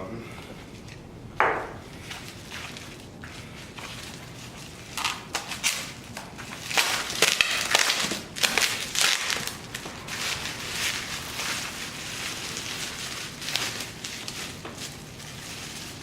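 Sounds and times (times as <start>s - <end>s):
packing material crinkling: 1.8s - 16.0s.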